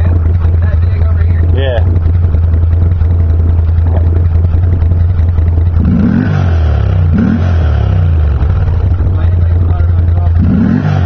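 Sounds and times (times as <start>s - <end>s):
atv engine idling and revving: 0.0s - 11.0s.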